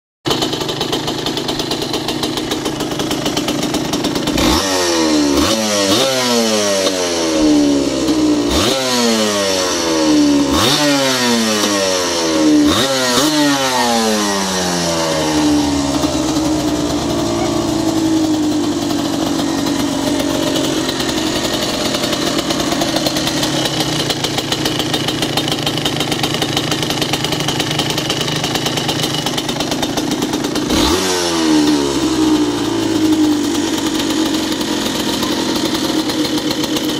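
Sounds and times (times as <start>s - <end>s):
motorcycle engine revving: 0.3s - 36.9s
two-stroke engine idling: 0.3s - 36.9s.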